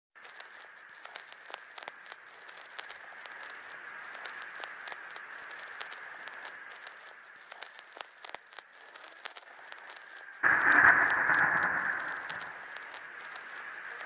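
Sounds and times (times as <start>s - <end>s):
record clicks and pops: 0.2s - 14.0s
record hiss: 0.2s - 14.0s.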